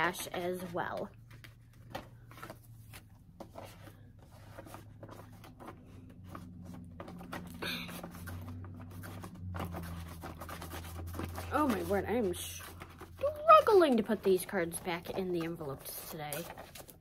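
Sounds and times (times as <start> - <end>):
paper rustling and scraping: 0.0 - 17.0.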